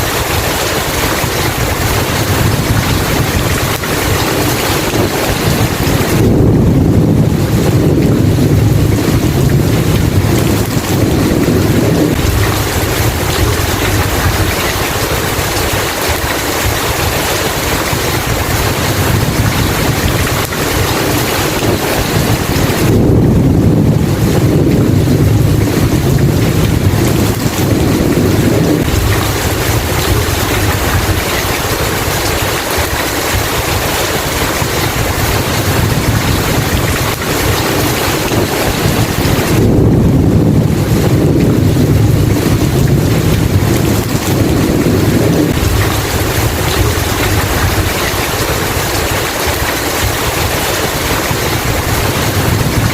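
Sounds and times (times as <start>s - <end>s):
heavy rain: 0.0s - 52.9s
rolling thunder: 0.0s - 52.9s.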